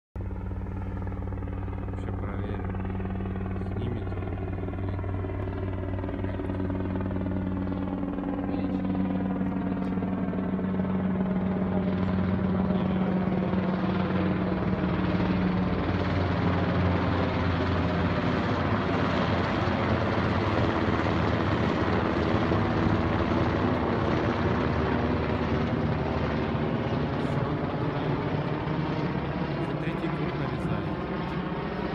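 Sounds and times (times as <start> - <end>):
helicopter flying overhead: 0.2 - 31.9.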